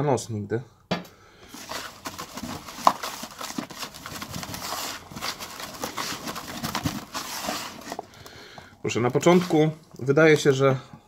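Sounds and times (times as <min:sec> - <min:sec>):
hand mixing damp groundbait: 0:01.4 - 0:11.0.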